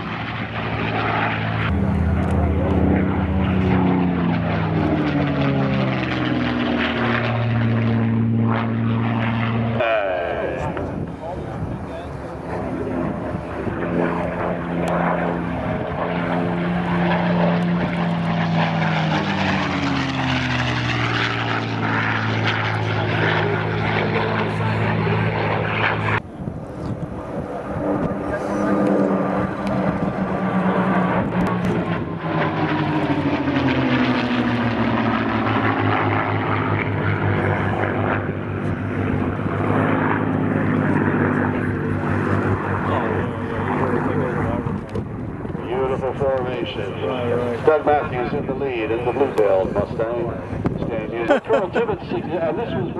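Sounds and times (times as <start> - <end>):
propeller plane flying past: 0.0 - 52.9.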